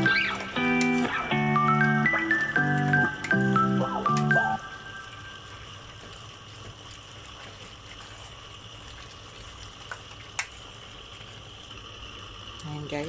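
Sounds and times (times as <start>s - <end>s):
liquid bubbling and sizzling: 0.0s - 13.0s.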